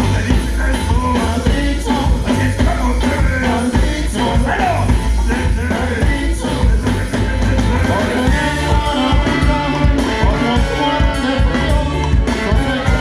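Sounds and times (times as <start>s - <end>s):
bass guitar: 0.0s - 13.0s
drums: 0.0s - 13.0s
live rock and roll band playing: 0.0s - 13.0s
person singing: 0.0s - 13.0s.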